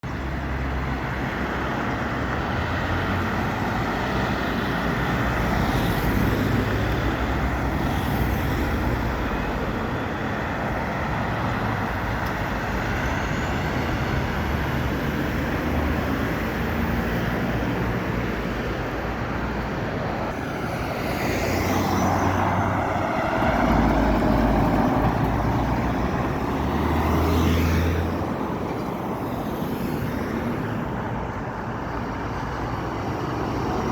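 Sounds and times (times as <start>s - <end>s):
vehicles driving past: 0.0s - 33.9s.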